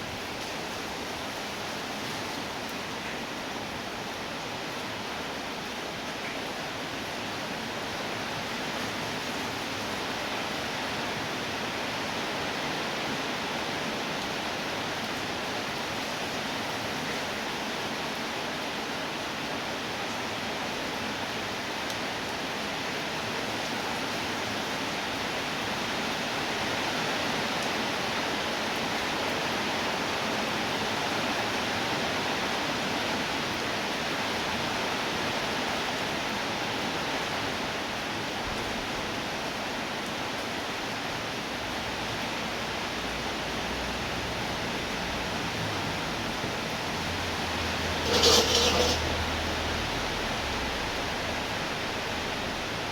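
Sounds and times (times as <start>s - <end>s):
steady rainfall: 0.0s - 52.9s.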